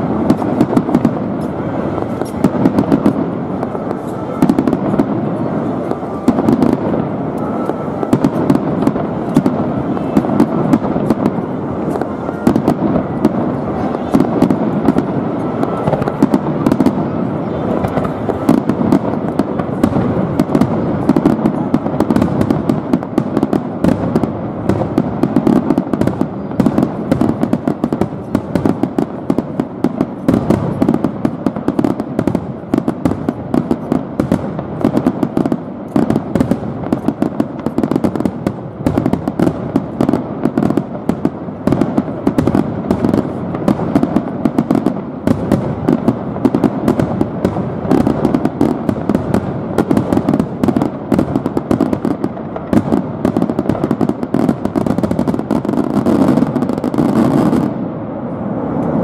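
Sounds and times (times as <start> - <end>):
fireworks shells bursting: 0.0 - 57.6
continuous rumble: 0.0 - 59.0
fireworks crackling pops: 0.0 - 59.0.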